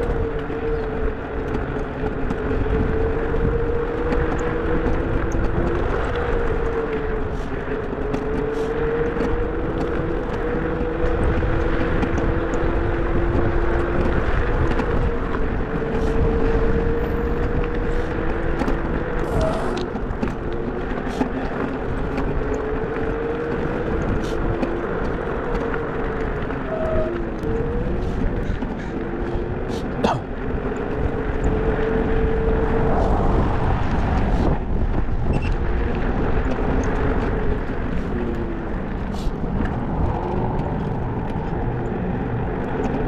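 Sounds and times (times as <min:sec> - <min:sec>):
car road noise: 0:00.0 - 0:43.0
low engine hum: 0:00.0 - 0:43.0.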